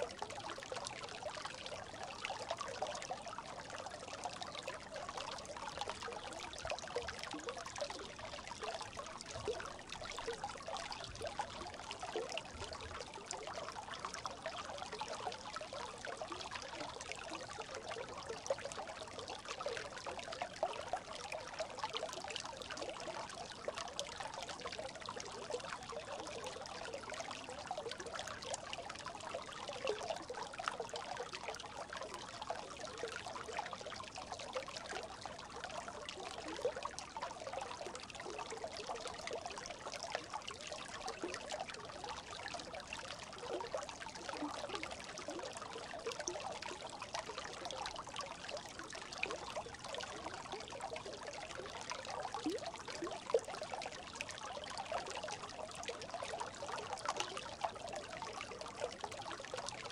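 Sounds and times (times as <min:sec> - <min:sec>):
brook babbling: 0:00.0 - 0:59.9.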